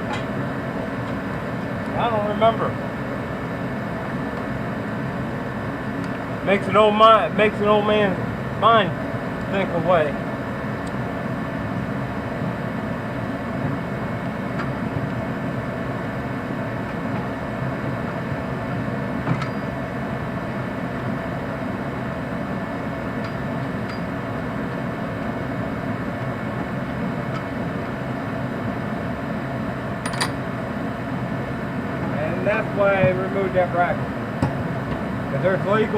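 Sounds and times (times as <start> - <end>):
steady mechanical hum: 0.0 - 35.9.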